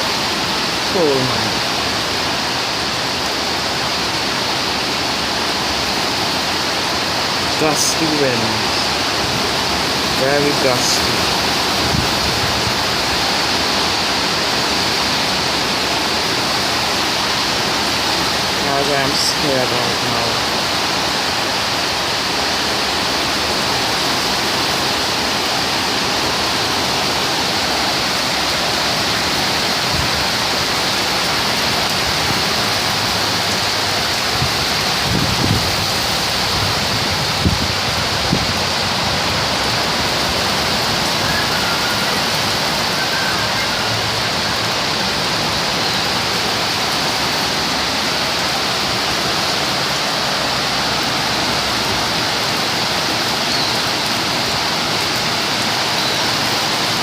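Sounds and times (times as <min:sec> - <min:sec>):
torrential rain pouring: 0:00.0 - 0:57.0.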